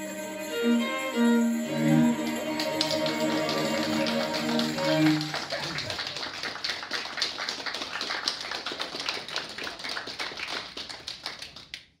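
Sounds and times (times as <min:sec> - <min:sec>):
audience applauding: 0:01.6 - 0:11.9.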